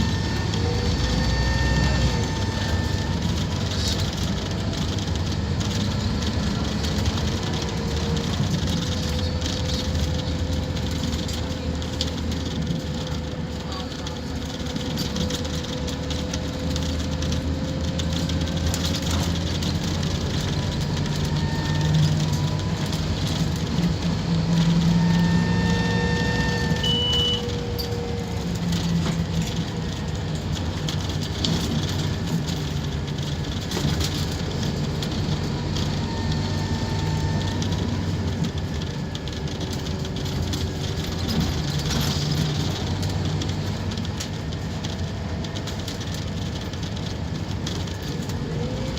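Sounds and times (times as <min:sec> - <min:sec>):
bus diesel engine drone: 0:00.0 - 0:48.9
drivetrain whine: 0:00.0 - 0:48.9.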